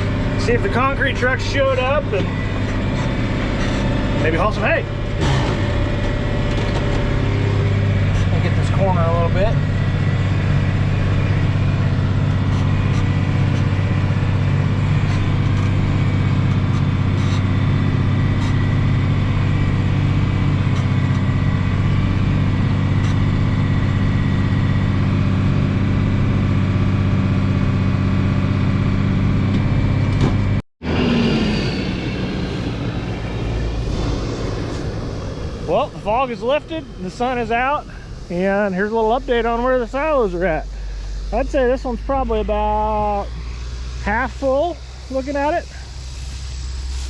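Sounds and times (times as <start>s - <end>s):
engine with falling pitch: 0.0s - 47.0s
tractor engine running: 0.0s - 47.0s.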